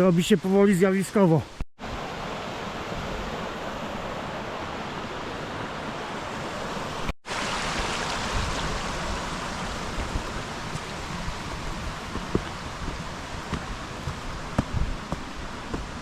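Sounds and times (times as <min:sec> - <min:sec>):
river rushing over cascades: 0:01.1 - 0:16.0.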